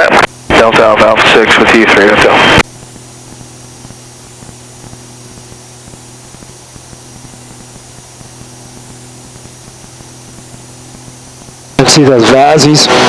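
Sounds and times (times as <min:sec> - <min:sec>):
aircraft piston engine droning: 0:00.0 - 0:13.0.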